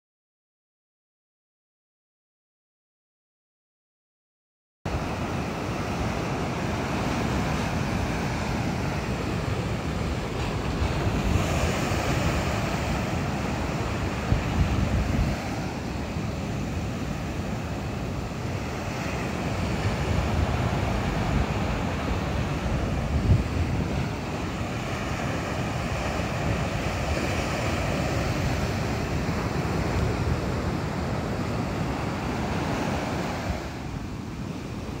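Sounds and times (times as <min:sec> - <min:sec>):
ocean surf breaking: 0:04.9 - 0:35.0
wind buffeting microphone: 0:04.9 - 0:35.0.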